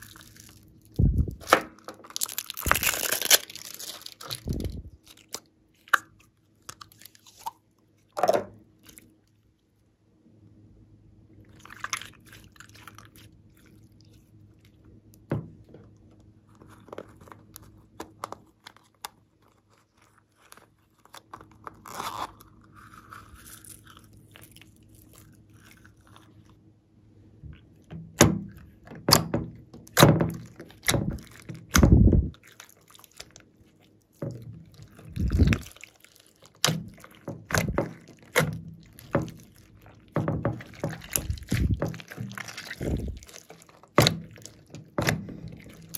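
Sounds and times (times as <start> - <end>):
slime squelching: 0.0 - 9.5, 11.4 - 26.6, 27.3 - 45.9.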